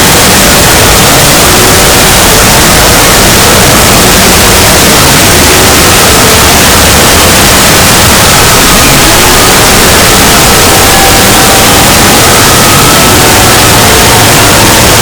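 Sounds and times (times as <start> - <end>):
distorted overdriven noise: 0.0 - 15.0.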